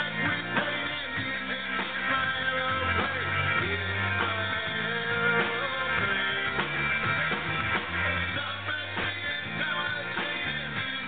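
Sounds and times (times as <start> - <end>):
bass notes: 0.0 - 11.0
drum kit steady beat: 0.0 - 11.0
electric guitar chords: 0.0 - 11.0.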